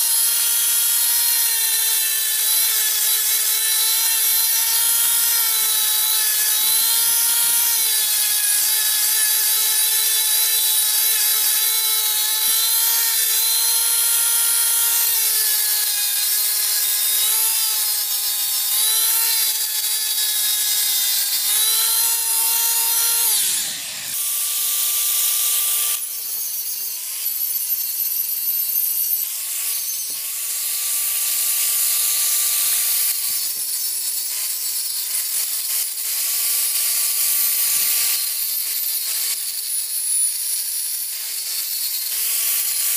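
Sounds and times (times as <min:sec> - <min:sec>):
electric power tool whining: 0:00.0 - 0:42.9.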